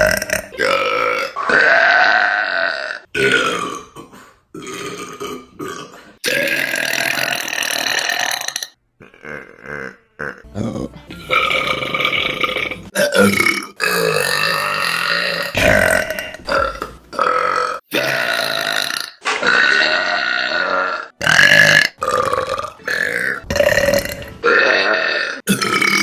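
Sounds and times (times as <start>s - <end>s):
women burping: 0.0s - 26.0s.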